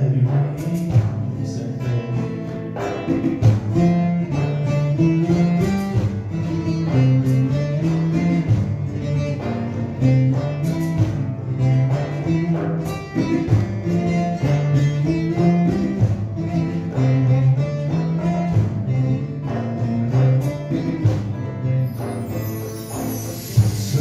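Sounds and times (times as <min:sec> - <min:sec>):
acoustic guitar and strings playing: 0:00.0 - 0:24.0.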